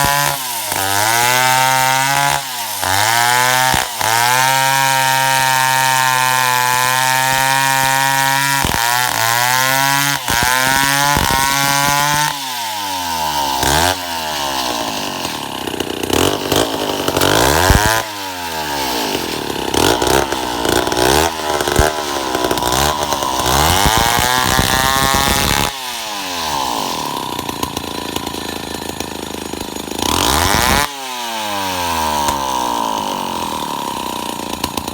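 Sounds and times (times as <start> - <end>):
chainsaw sawing wood: 0.0 - 34.9.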